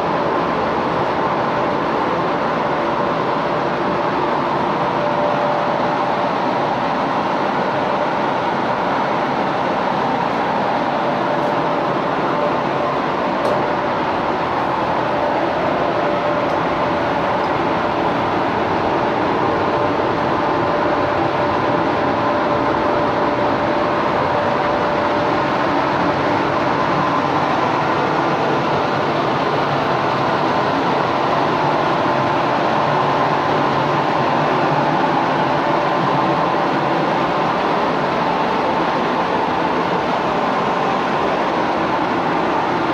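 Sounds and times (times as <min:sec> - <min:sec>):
ventilation fans rushing air: 0:00.0 - 0:42.9.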